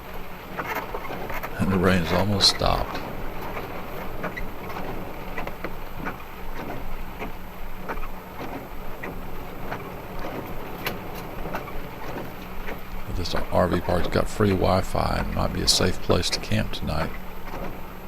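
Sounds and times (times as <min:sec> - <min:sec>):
engine and road hum: 0:00.0 - 0:18.0.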